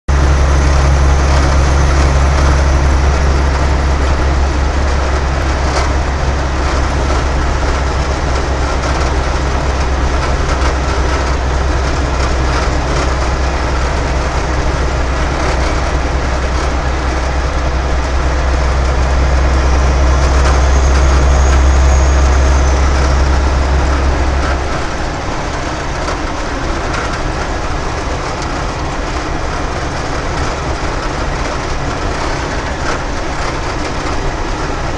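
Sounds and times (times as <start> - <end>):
truck engine drone: 0.1 - 34.9.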